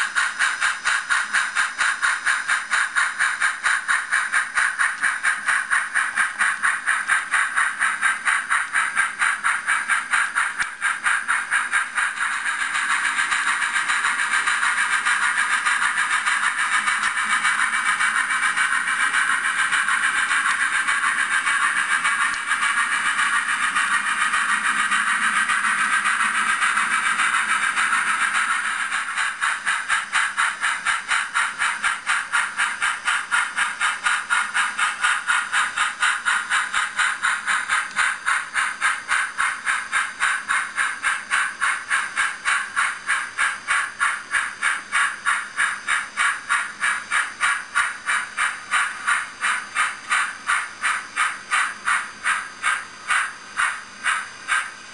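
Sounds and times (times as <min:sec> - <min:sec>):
model steam train hissing: 0:00.0 - 0:54.9
rhythmic pulsing of train: 0:00.0 - 0:54.9.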